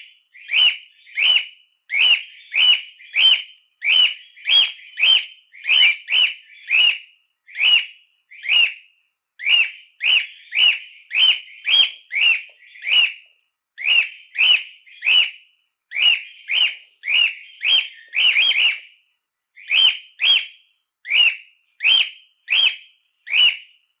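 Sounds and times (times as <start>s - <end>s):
cockatiel shrill calls: 0.4s - 8.8s, 9.4s - 13.2s, 13.8s - 19.0s, 19.6s - 23.7s.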